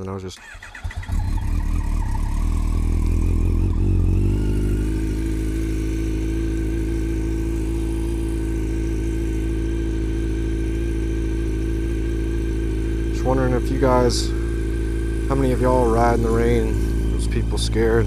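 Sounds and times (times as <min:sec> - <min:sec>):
motorcycle engine idling: 0:00.4 - 0:18.0.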